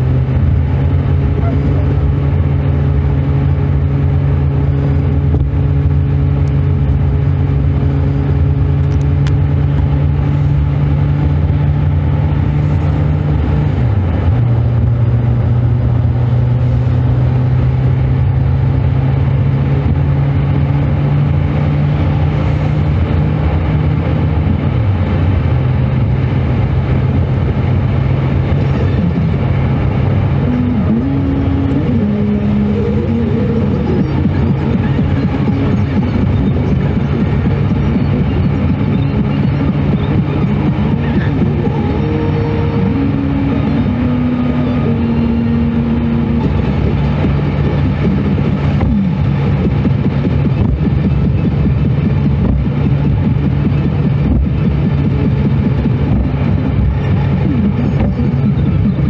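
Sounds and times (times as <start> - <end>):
car engine hum: 0.0 - 59.0
road noise: 0.0 - 59.0.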